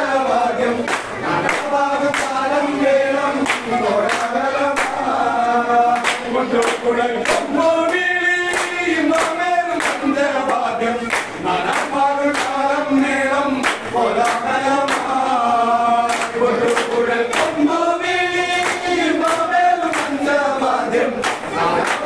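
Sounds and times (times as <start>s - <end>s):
group singing folk song: 0.0s - 22.0s
rhythmic hand claps: 0.0s - 22.0s.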